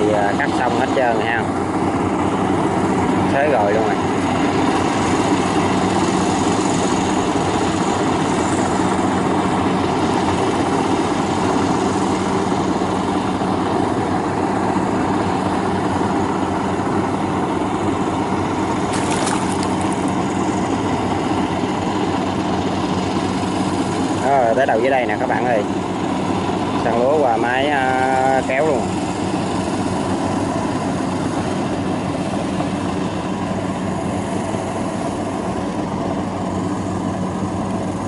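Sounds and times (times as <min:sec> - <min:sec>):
combine harvester engine drone: 0:00.0 - 0:38.0.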